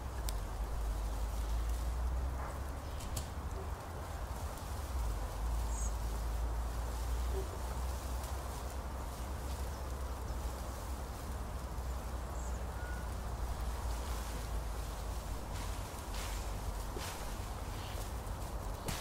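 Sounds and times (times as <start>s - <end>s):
distant murmur: 0.0s - 19.0s.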